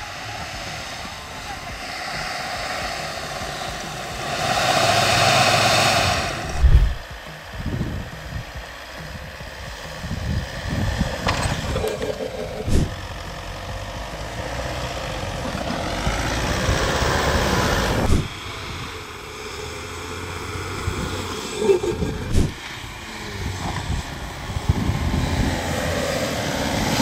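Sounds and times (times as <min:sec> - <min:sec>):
truck engine straining in snow: 0:00.0 - 0:27.0.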